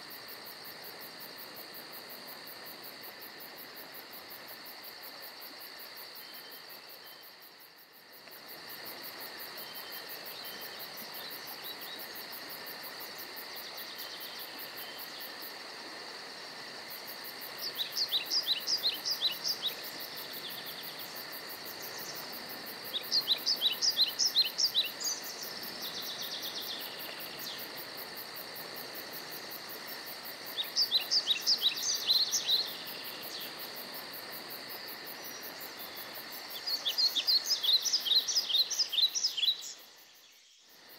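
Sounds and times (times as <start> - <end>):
crickets and insects droning: 0.0 - 40.9.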